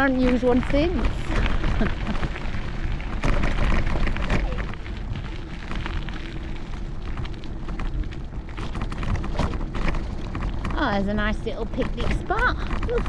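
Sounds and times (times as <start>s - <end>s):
bicycle tyres crunching on gravel: 0.0s - 13.0s
wind buffeting microphone: 0.0s - 13.0s.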